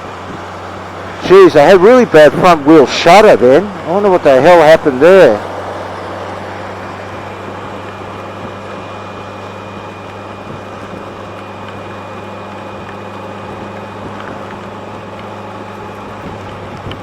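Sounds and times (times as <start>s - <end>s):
motorcycle engine hum: 0.0s - 17.0s.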